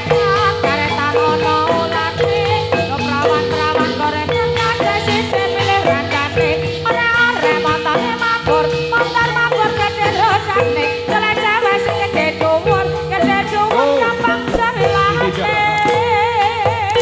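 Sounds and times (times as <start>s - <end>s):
gamelan-style music: 0.0s - 17.0s.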